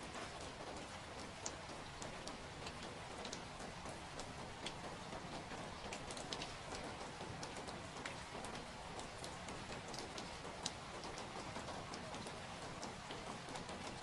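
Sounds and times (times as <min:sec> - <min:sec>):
raindrops tapping: 0:00.0 - 0:14.0
steady rain: 0:00.0 - 0:14.0.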